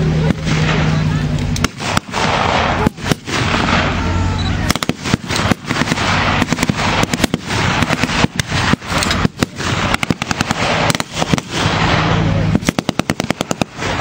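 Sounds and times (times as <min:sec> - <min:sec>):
low engine drone: 0:00.0 - 0:14.0
rifle and machine gun fire: 0:00.2 - 0:14.0.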